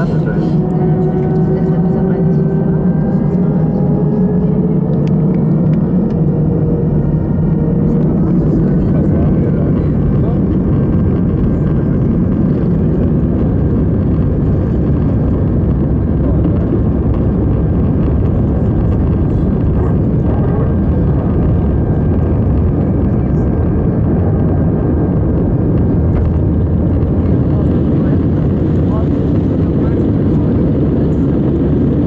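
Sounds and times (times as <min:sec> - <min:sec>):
faint high engine whine: 0:00.0 - 0:32.0
jet engines rumbling in cabin: 0:00.0 - 0:32.0.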